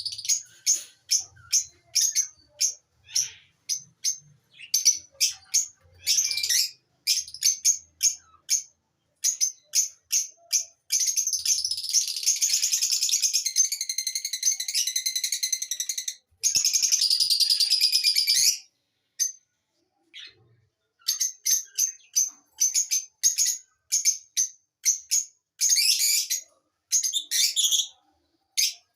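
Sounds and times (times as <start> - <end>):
lovebirds chirping and chattering: 0.0 - 28.9.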